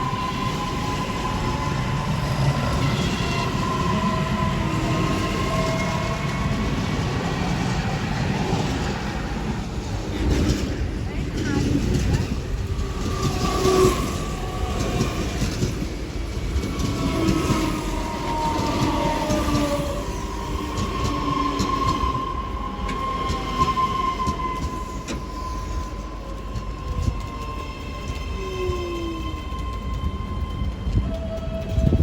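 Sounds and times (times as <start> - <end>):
electric train rumbling: 0.0 - 32.0.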